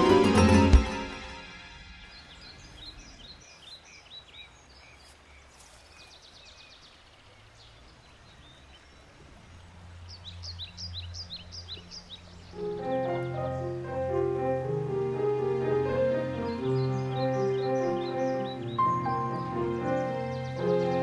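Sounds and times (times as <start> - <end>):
birds chirping: 0.0 - 21.0
faint outdoor background noise: 0.0 - 21.0.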